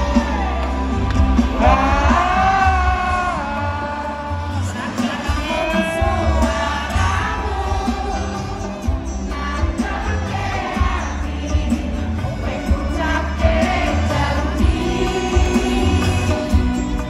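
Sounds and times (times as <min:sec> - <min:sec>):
audience singing along: 0:00.0 - 0:17.0
live band playing pop song: 0:00.0 - 0:17.0.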